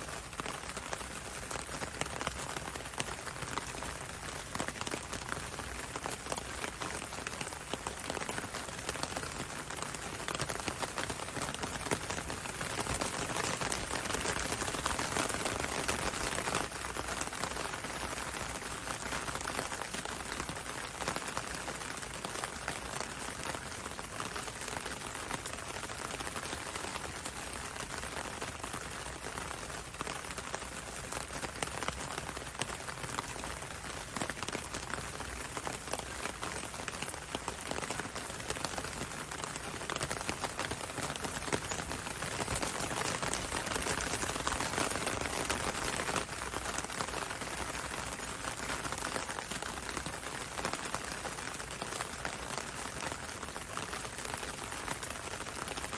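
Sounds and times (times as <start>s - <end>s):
rain on window and road: 0.0s - 55.9s.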